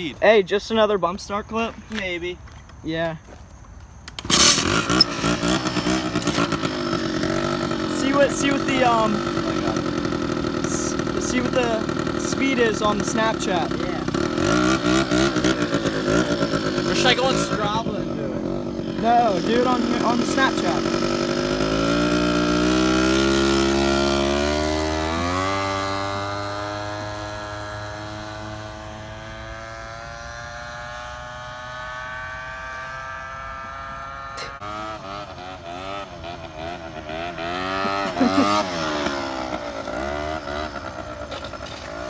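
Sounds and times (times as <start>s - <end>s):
scooter engine revving: 4.1s - 42.0s.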